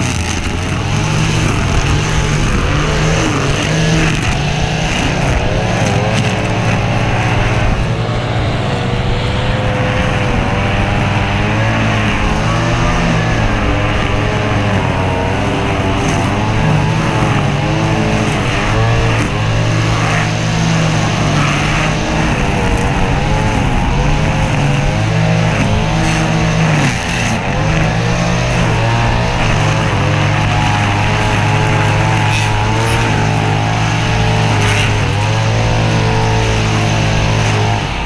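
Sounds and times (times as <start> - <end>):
string trimmer engine revving: 0.0 - 38.0.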